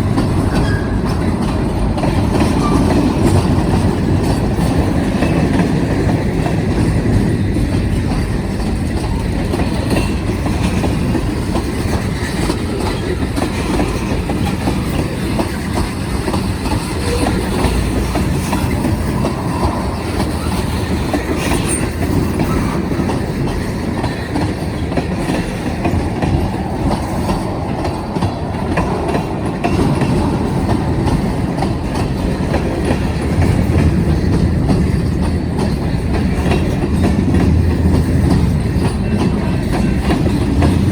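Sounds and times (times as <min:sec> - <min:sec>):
freight train rolling past: 0:00.0 - 0:40.9
wheels clacking over rail joints: 0:00.0 - 0:40.9.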